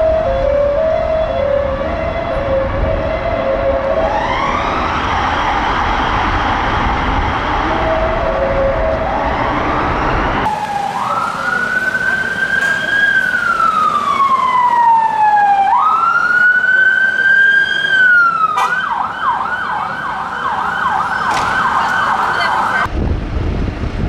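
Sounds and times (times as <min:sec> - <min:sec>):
police siren wailing: 0:00.0 - 0:22.9
heavy traffic rumble: 0:00.0 - 0:24.0.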